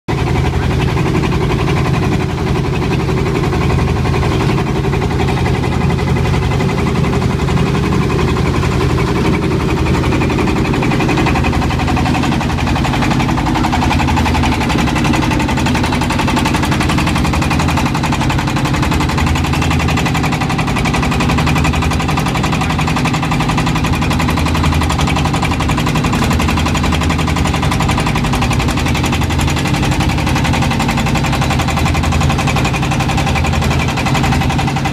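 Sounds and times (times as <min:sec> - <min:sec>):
boat engine running: 0:00.1 - 0:34.9.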